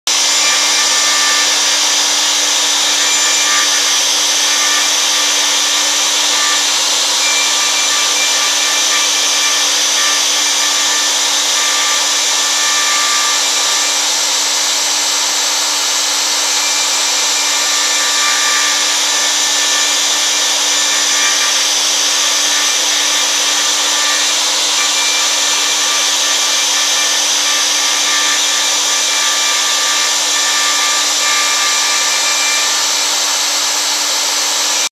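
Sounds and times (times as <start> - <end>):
router spindle whining and cutting wood: 0.0 - 34.9.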